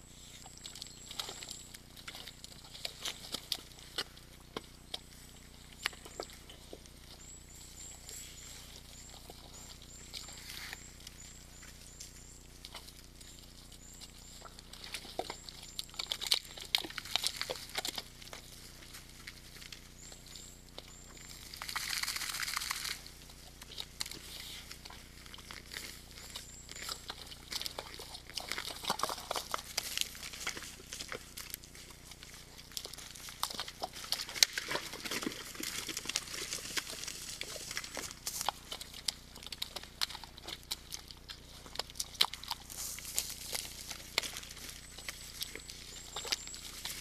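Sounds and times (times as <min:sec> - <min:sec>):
deer moving in wet mud: 0:00.0 - 0:47.0.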